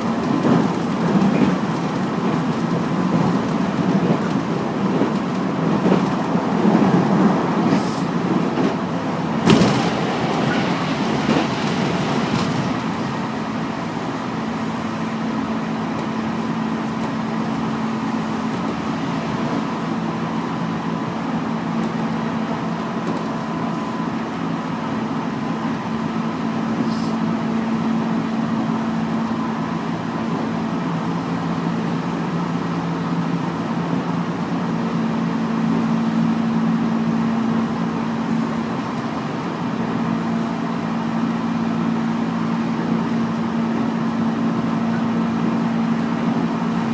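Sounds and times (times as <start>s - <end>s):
train motor hum: 0.0s - 46.9s
train wheels rumbling on rails: 0.0s - 46.9s.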